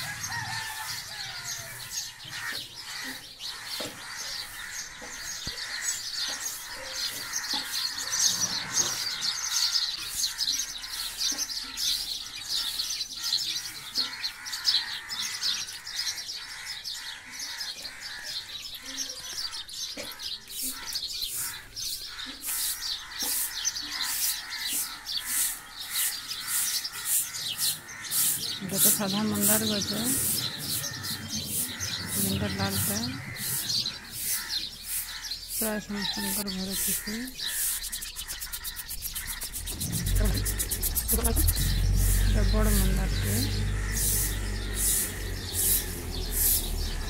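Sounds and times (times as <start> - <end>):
small birds chirping and twittering: 0.0 - 47.0.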